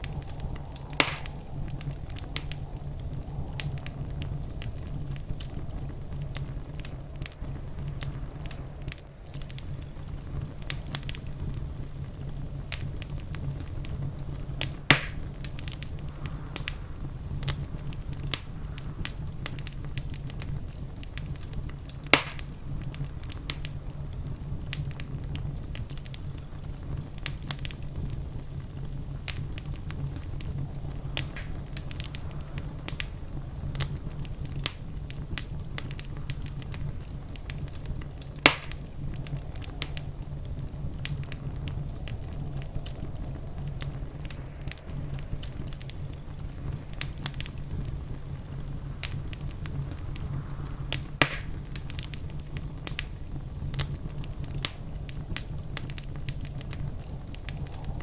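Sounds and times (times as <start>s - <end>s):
loud fire pops: 0.0s - 58.0s
low fire rumble: 0.0s - 58.0s
wood fire crackling: 0.0s - 58.0s.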